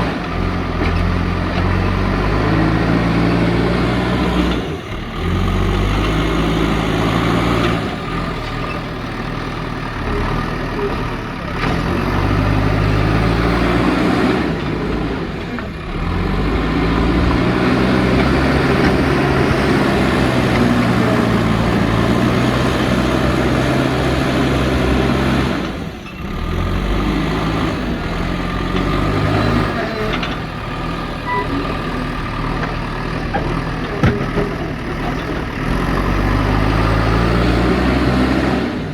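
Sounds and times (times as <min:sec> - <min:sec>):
diesel engine revving under load: 0:00.0 - 0:38.9.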